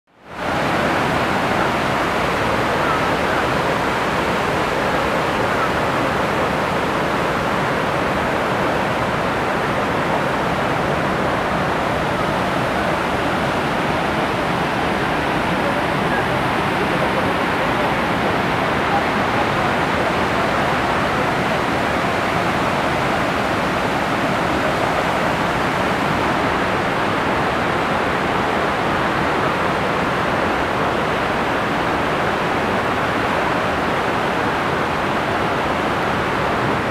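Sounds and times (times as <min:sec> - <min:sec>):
waterfall rushing: 0:00.2 - 0:36.9.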